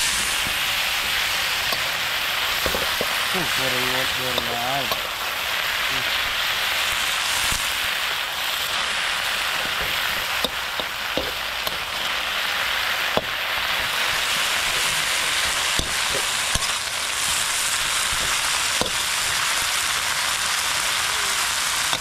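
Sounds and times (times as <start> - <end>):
greens sizzling in a wok: 0.0 - 22.0.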